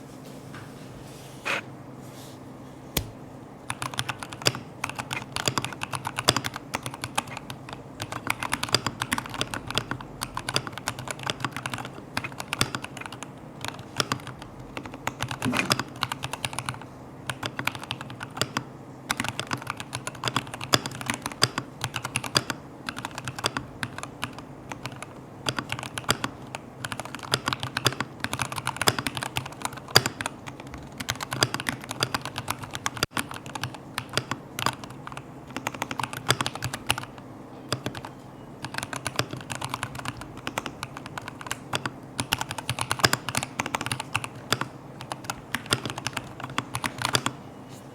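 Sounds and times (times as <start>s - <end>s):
mechanical keyboard typing: 3.7s - 47.4s.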